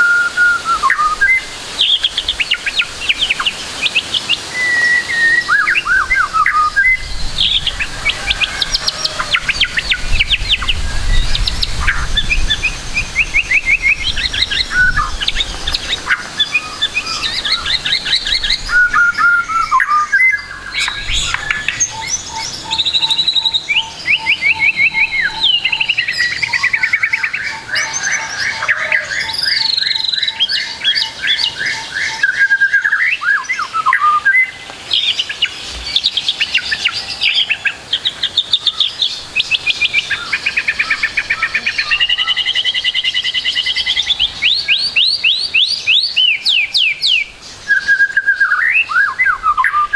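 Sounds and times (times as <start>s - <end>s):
bird singing trills and whistles: 0.0s - 49.9s.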